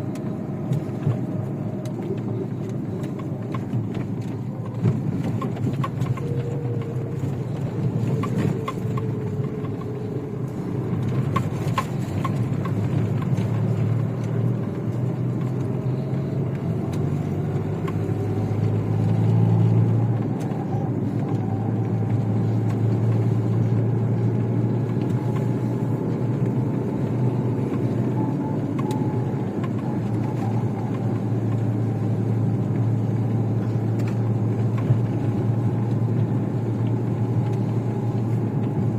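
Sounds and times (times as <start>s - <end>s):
car engine running: 0.0s - 38.9s
whine rising in pitch: 0.0s - 38.9s.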